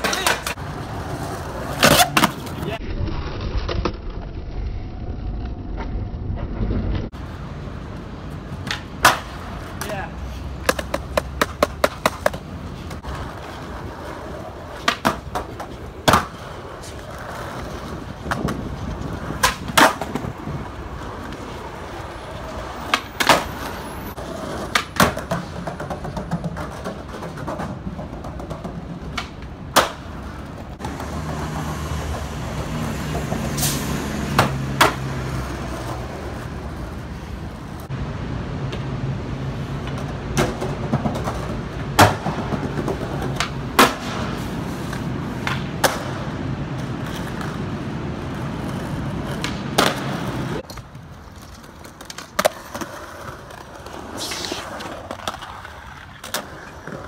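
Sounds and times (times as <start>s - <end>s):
skateboard popping and landing: 0.0s - 7.2s, 7.9s - 32.4s, 34.3s - 37.9s, 38.6s - 57.0s
skateboard wheels rolling: 0.0s - 57.0s.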